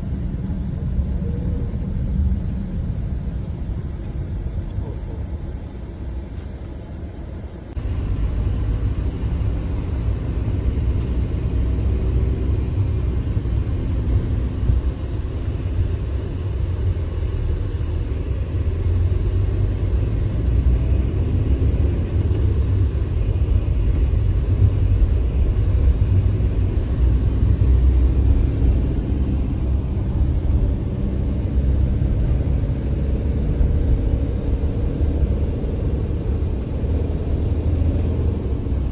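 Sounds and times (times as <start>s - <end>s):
car driving rumble: 0.0s - 38.9s.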